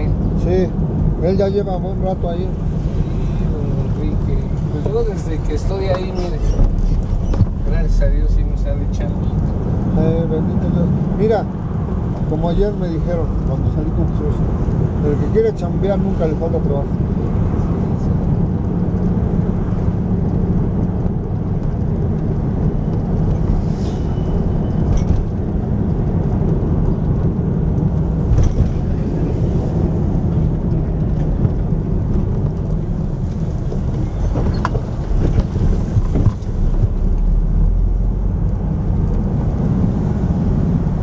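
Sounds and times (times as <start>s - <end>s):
car engine and road rumble: 0.0s - 41.0s.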